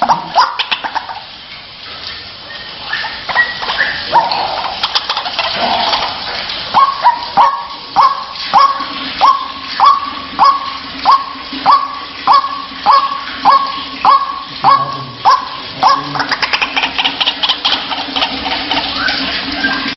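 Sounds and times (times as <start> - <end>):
waterhen calling: 0.0 - 19.9.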